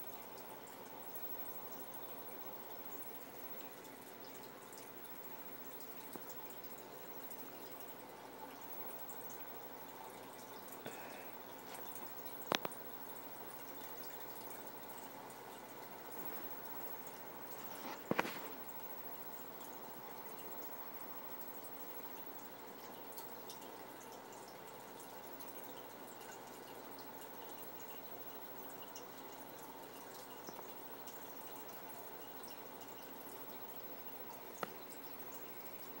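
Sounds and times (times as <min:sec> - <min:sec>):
faint water drips: 0:00.0 - 0:36.0
trickle of aquarium water: 0:00.0 - 0:36.0.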